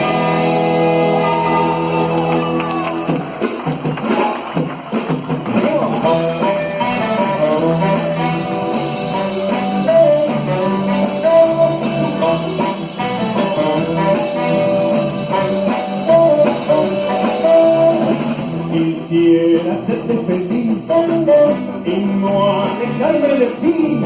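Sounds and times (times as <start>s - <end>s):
live band playing ballad: 0.0s - 24.0s.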